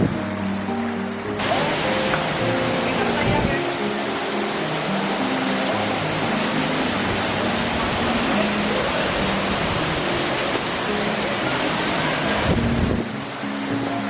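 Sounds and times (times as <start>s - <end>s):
background music: 0.0s - 14.0s
falling water rushing: 0.0s - 14.0s.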